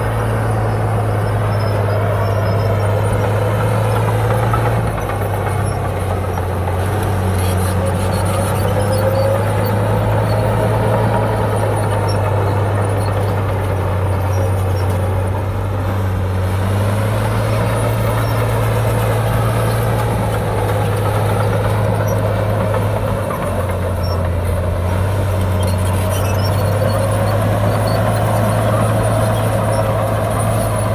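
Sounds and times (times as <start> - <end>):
heavy diesel engine humming: 0.0 - 30.9.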